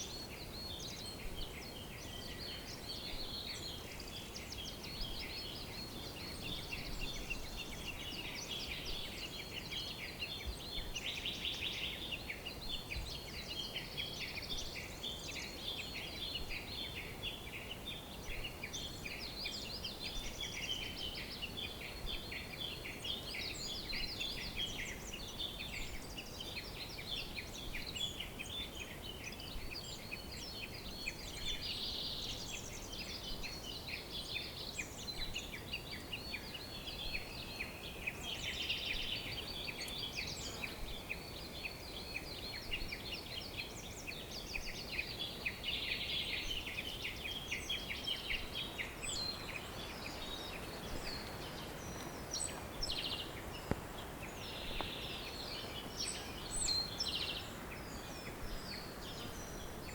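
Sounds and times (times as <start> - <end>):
small birds singing: 0.0 - 59.9
steady background hiss: 0.0 - 59.9.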